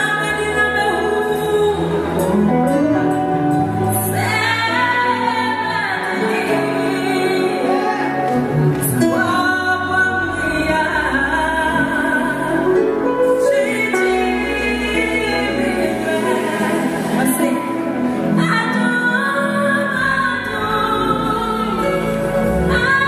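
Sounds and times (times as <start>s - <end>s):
band accompaniment: 0.0s - 19.1s
woman singing into a microphone: 0.0s - 23.0s.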